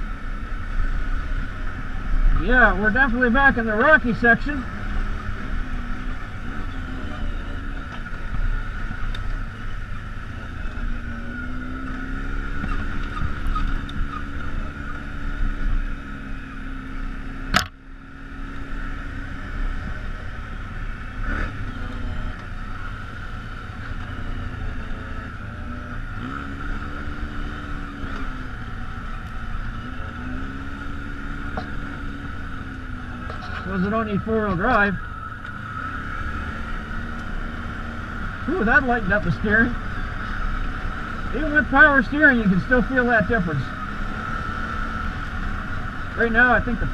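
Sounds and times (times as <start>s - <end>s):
atv engine revving: 0.0s - 46.9s
steady whine: 0.0s - 46.9s.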